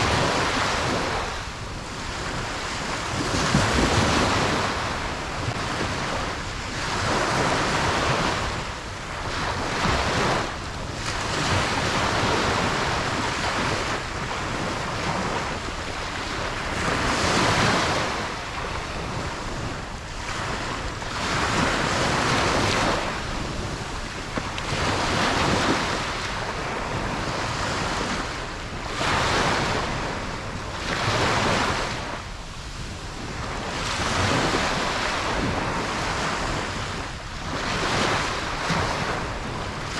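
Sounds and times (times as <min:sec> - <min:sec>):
ocean waves breaking on beach: 0:00.0 - 0:39.9
wind noise on microphone: 0:00.0 - 0:39.9.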